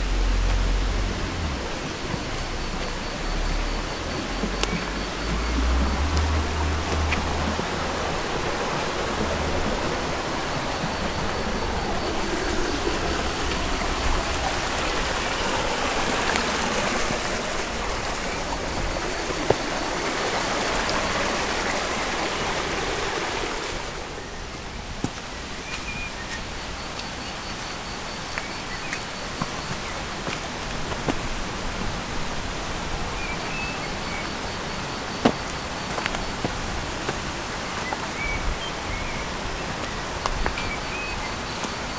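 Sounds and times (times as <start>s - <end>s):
stream running over stones: 0.0s - 41.9s.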